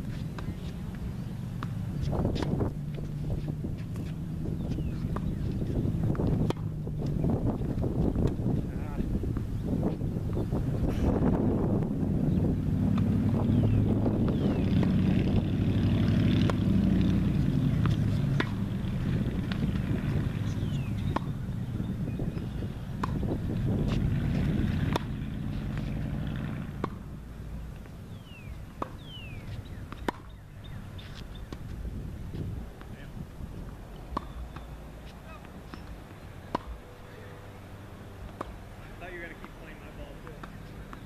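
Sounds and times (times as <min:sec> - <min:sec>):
tennis balls struck by rackets: 0:00.0 - 0:41.0.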